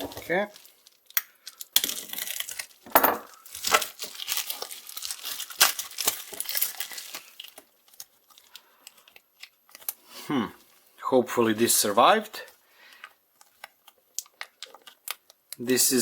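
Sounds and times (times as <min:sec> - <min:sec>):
packaging crinkling and tearing: 0:00.0 - 0:10.8, 0:11.6 - 0:16.0.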